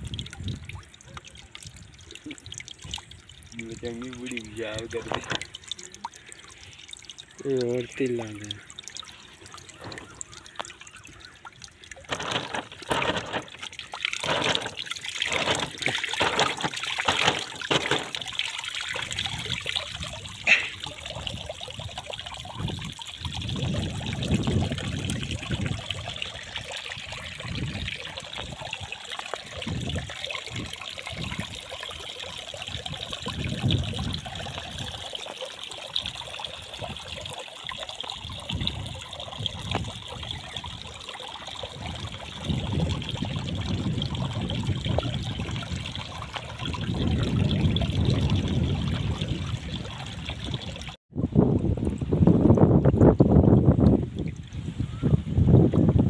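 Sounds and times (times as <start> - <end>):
muddy water pouring onto ground: 0.0 - 51.0
water trickling and splashing: 0.0 - 56.0.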